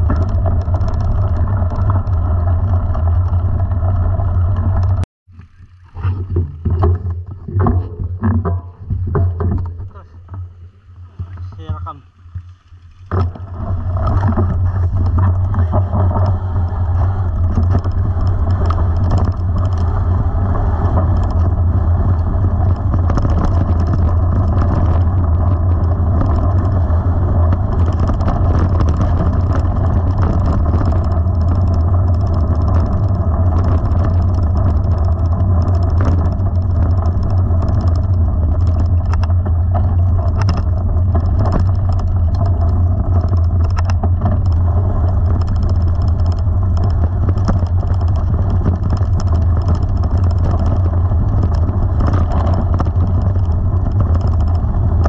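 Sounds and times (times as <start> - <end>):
bike rattle: 0.0 - 5.0, 6.0 - 55.0
loose stones clicking: 0.0 - 5.0, 12.8 - 55.0
wind rumble on microphone: 0.0 - 5.1, 5.9 - 55.0.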